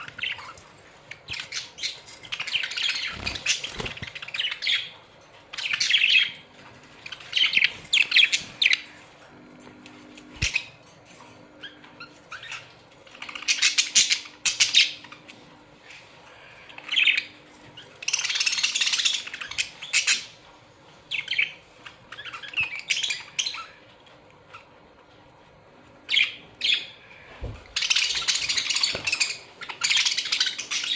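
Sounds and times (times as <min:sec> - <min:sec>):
budgerigars chirping and chattering: 0:00.0 - 0:09.1, 0:10.2 - 0:25.2, 0:26.0 - 0:30.9.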